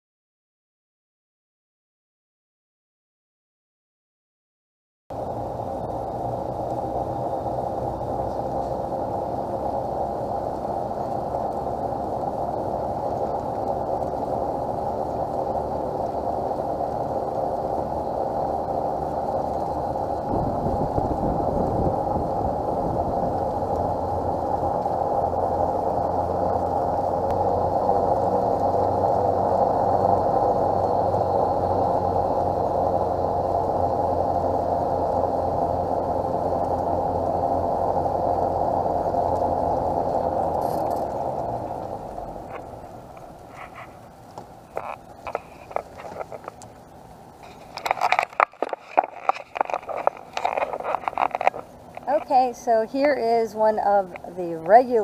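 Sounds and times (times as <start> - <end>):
low rumble: 5.2 - 53.2
vehicle driving on paved road: 5.2 - 54.3.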